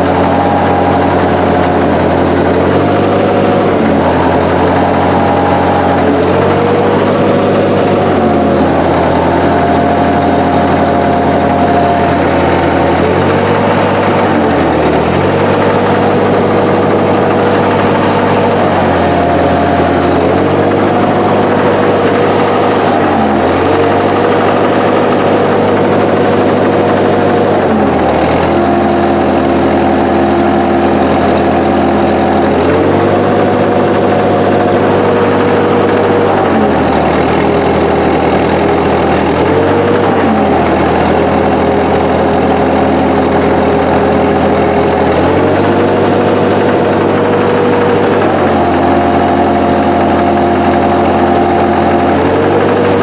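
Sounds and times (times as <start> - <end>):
backhoe hydraulics working: 0.0 - 53.0
tractor engine running: 0.0 - 53.0.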